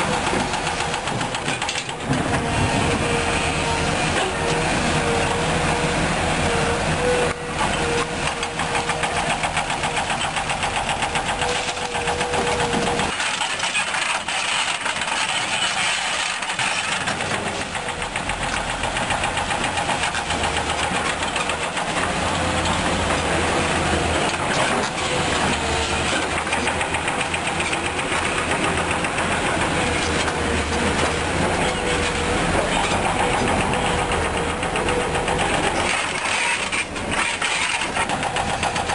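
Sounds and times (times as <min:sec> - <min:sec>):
diesel engines running: 0:00.0 - 0:38.9
steady mechanical whine: 0:00.0 - 0:38.9.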